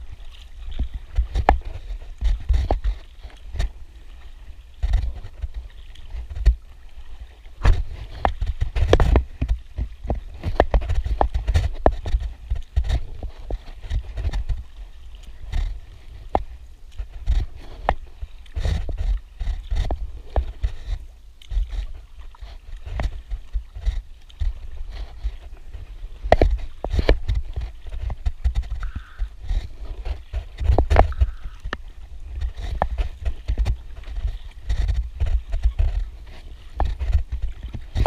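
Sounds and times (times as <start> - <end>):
paddle strokes splashing: 0.0 - 38.0.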